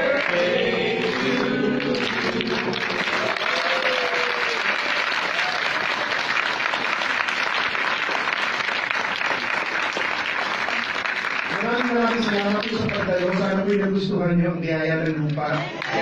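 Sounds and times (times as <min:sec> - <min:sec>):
audience applauding: 0:00.0 - 0:14.0, 0:15.5 - 0:16.0.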